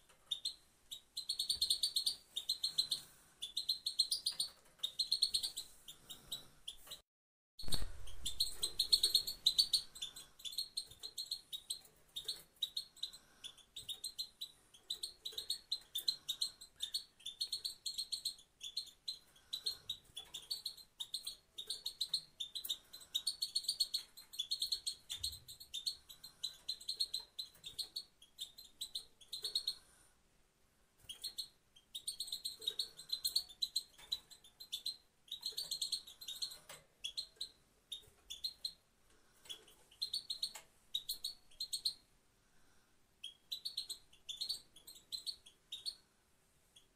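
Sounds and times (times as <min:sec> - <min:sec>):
goldfinch twittering chirps: 0:00.3 - 0:07.0, 0:07.6 - 0:29.8, 0:31.0 - 0:38.8, 0:39.4 - 0:42.0, 0:43.2 - 0:46.0.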